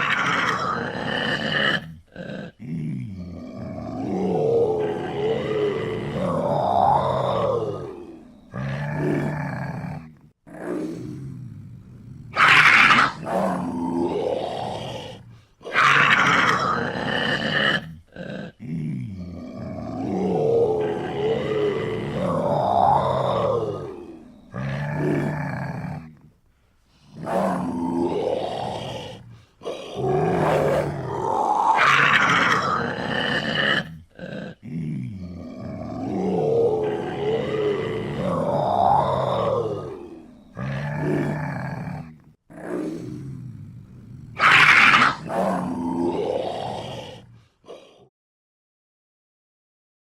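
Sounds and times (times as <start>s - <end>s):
leopard growling and roaring: 0.0s - 26.3s, 27.0s - 48.1s.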